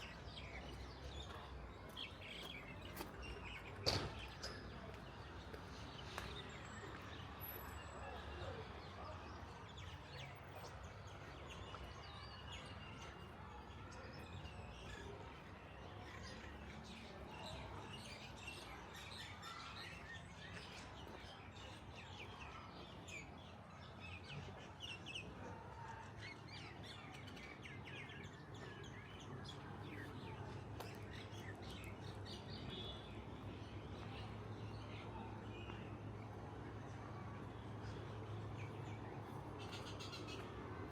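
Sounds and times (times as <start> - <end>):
small birds chirping: 8.0 - 40.9.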